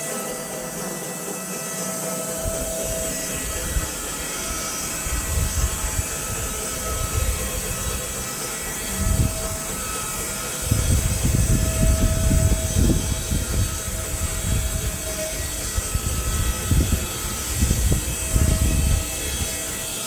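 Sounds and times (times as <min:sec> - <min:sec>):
bandsaw mill running: 0:00.0 - 0:20.0
faint steady whine: 0:00.0 - 0:20.0.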